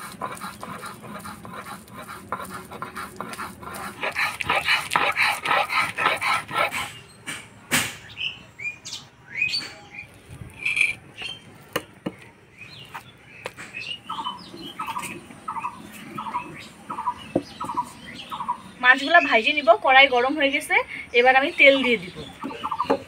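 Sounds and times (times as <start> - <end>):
birds chirping: 0.2 - 23.0.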